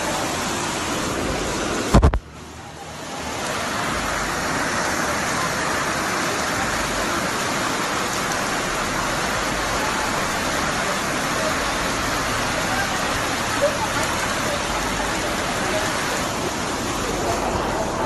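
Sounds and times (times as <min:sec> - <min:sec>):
rain: 0:00.0 - 0:18.0
rushing floodwater: 0:00.0 - 0:18.0.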